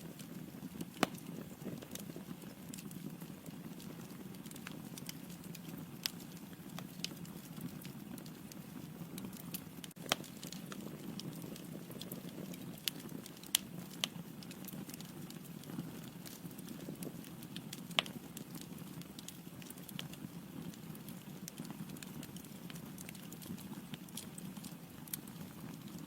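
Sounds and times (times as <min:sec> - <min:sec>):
crackles and pops of burning wood: 0:00.0 - 0:26.0
fire burning: 0:00.0 - 0:26.0.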